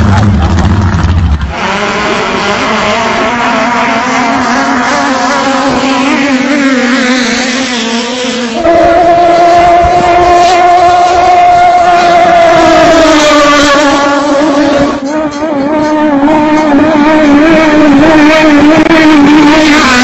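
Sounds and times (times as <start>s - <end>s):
racing boat engines at high revs: 0.0s - 20.0s.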